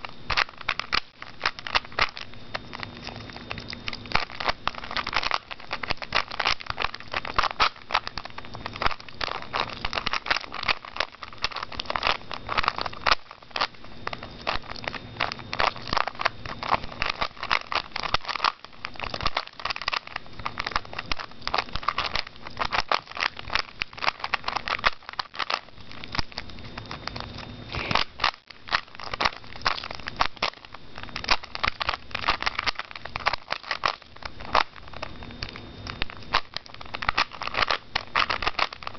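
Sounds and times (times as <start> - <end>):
puzzle cube clicking and rattling: 0.0 - 38.9.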